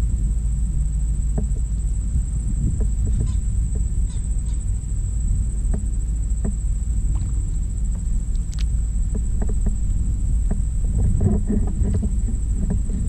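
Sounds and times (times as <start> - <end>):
thin high whine: 0.0 - 13.0
wind on microphone: 0.0 - 13.0.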